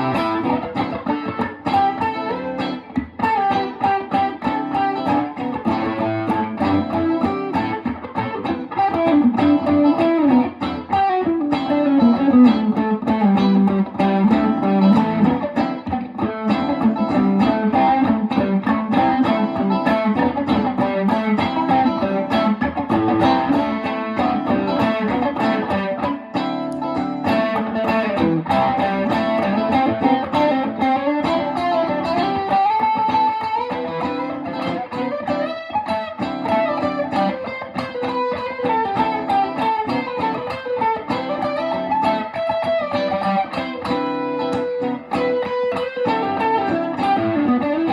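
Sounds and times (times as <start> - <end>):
electric guitar solo: 0.0 - 47.9.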